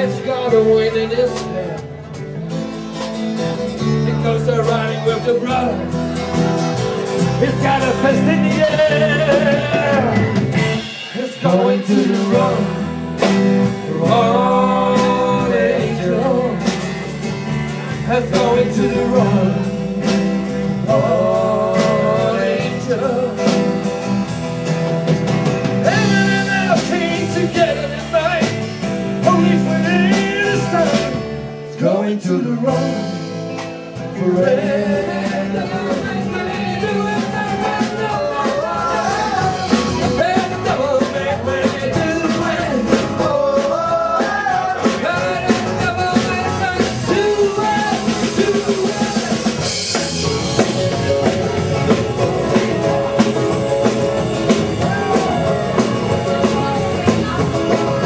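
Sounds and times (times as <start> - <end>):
man singing: 0.0 - 1.9, 3.6 - 6.0, 7.1 - 24.1, 25.8 - 58.0
live rock band: 0.0 - 58.0.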